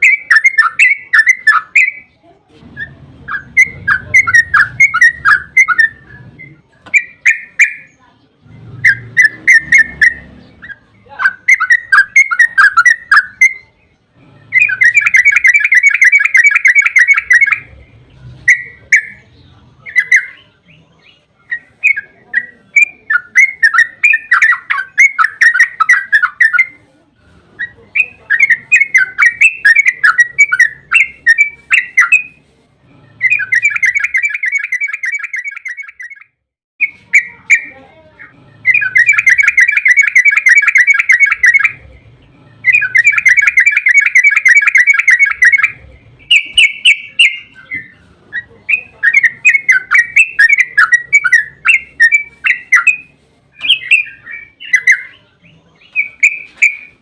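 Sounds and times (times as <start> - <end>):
bulbul singing: 0.0 - 26.9, 27.5 - 57.0.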